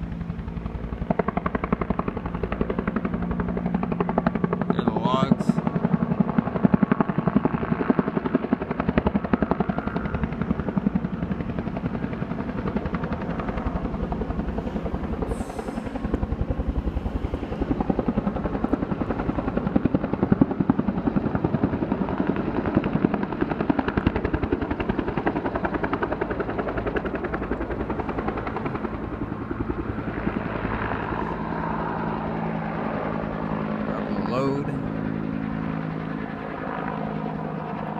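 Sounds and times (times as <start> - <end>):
helicopter rotor blades chopping: 0.0 - 37.9.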